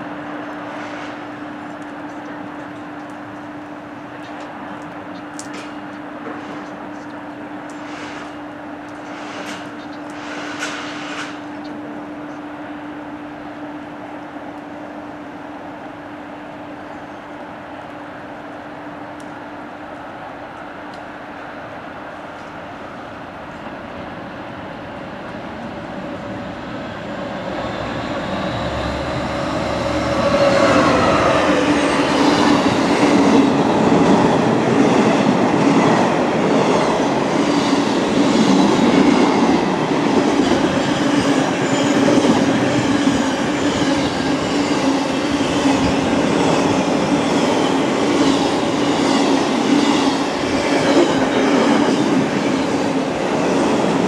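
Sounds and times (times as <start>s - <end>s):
diesel locomotive engine: 0.0s - 54.0s.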